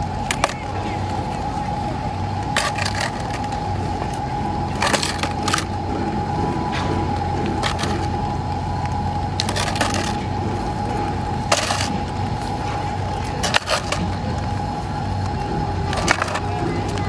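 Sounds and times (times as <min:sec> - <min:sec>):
diesel engine with high whine: 0:00.0 - 0:17.0.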